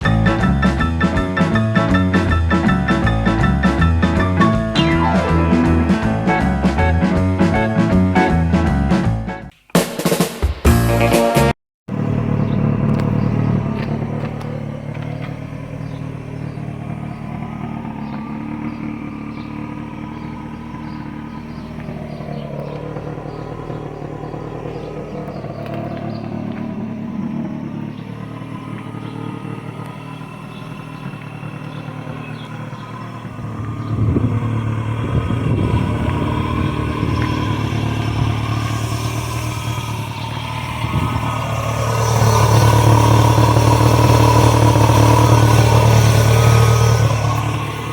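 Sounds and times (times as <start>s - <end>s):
car engine exhaust note: 0.0s - 9.3s, 11.9s - 47.9s.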